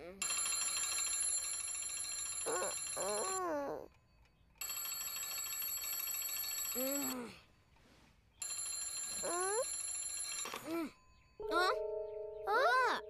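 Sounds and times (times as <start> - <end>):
cartoon alarm clock bell ringing: 0.1 - 3.9, 4.6 - 7.4, 8.4 - 13.0.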